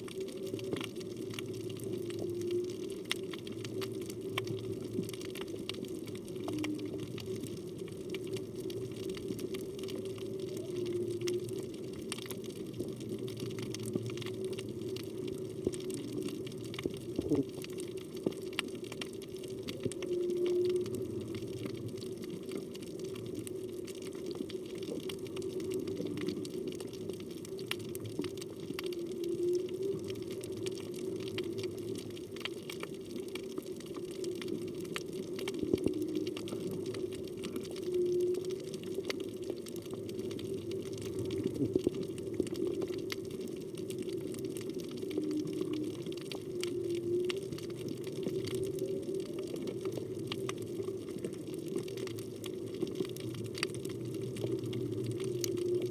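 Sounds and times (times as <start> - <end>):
distant whale song: 0.0 - 55.9
faint clicks: 0.0 - 55.9
steady low underwater hum: 0.0 - 55.9.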